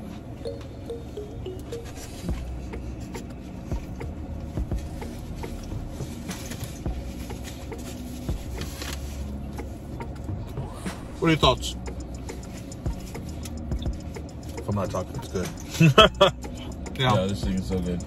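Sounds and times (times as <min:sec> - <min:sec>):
low hum inside a car: 0:00.0 - 0:18.0.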